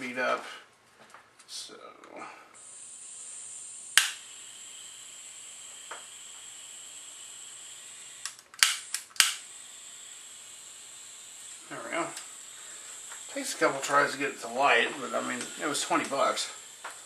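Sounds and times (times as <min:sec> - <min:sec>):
gas hissing: 0:02.2 - 0:17.0.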